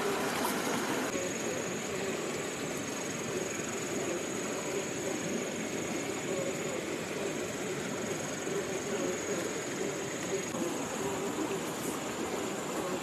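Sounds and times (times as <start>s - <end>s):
insect high drone: 0.0s - 13.0s
stream water rushing: 0.0s - 13.0s.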